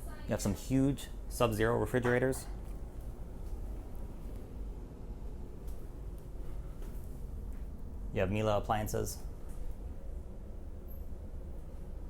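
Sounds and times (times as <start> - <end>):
low rumble with faint hum: 0.0 - 12.0.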